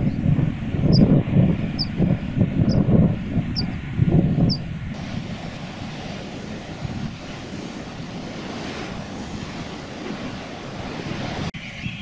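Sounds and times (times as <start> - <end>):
sea surf on rocky shore: 0.0 - 11.6
wind buffeting microphone: 0.0 - 12.0.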